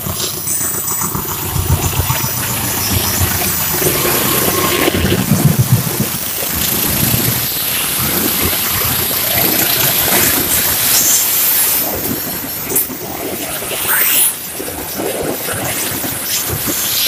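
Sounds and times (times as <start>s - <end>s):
passenger train rushing: 0.0s - 17.0s.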